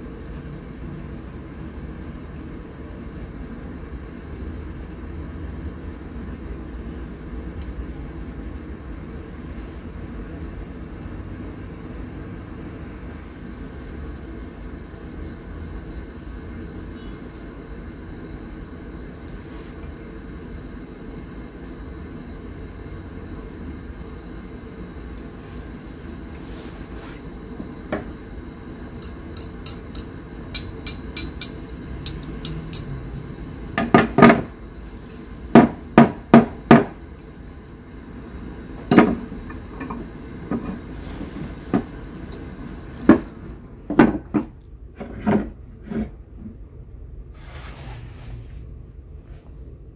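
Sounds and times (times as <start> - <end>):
steady background noise: 0.0 - 49.9.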